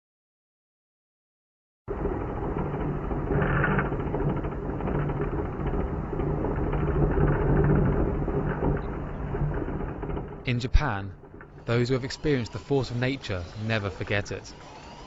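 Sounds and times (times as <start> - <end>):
earthquake rumble: 1.9 - 15.0
objects rattling: 1.9 - 15.0
steady low hum: 1.9 - 15.0.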